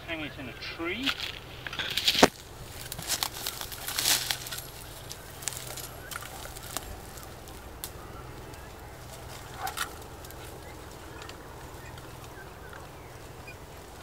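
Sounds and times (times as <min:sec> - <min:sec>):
leaves and branches rustling: 0:00.0 - 0:14.0
low steady hum: 0:00.0 - 0:14.0.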